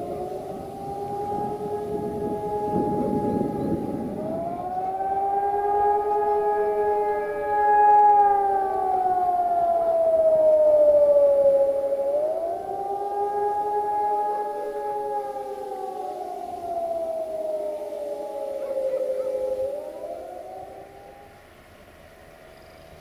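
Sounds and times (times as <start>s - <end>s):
faint second siren tone: 0.0s - 23.0s
siren wailing: 0.0s - 23.0s.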